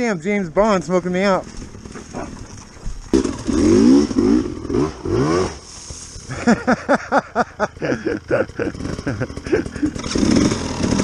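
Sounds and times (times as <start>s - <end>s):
dirt bike engine revving: 1.4s - 11.0s.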